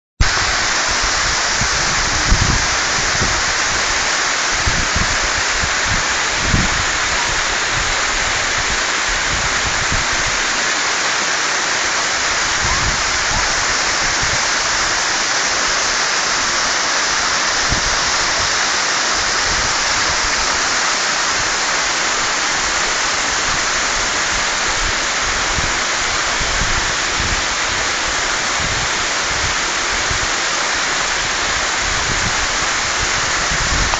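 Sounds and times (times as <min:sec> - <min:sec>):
waterfall pouring: 0:00.2 - 0:33.9.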